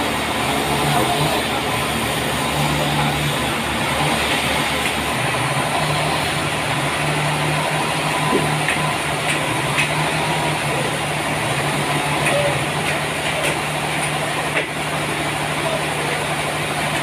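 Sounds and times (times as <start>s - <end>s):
stationary engine running: 0.0s - 17.0s.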